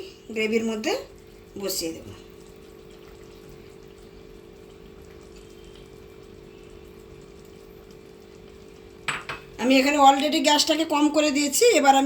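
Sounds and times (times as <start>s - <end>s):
gravy simmering in a pan: 0.0s - 11.9s.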